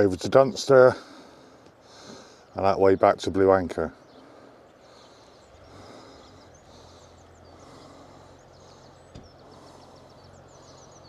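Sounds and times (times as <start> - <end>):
small birds singing: 0.0 - 11.0
steady outdoor hiss: 0.0 - 11.0.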